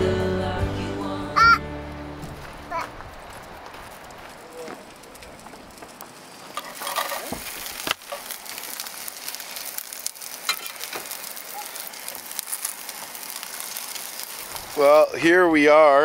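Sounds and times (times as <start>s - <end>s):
food sizzling in a frying pan: 2.4s - 16.0s.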